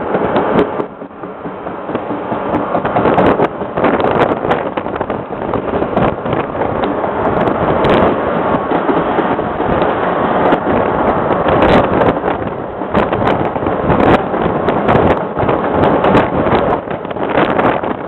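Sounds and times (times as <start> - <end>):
train running on track: 0.0 - 18.0
wind on microphone: 0.0 - 18.0.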